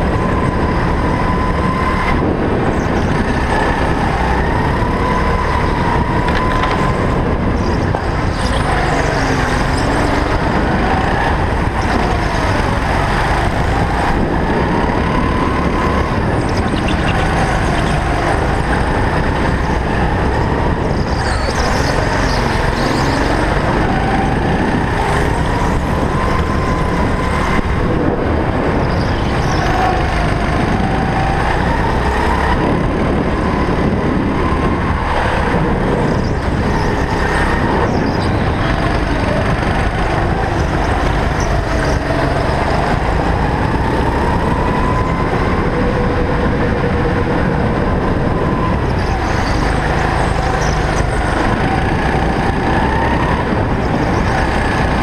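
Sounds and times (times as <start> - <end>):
go-kart engine revving: 0.0 - 55.0
wind rush and rolling noise: 0.0 - 55.0.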